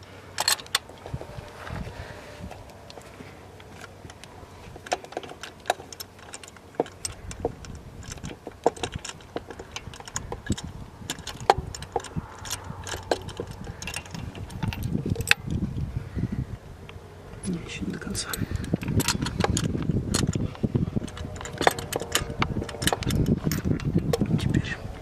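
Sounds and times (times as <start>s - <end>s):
metal tools clinking: 0.0s - 15.6s, 17.7s - 24.8s
low handling rumble: 0.0s - 25.0s.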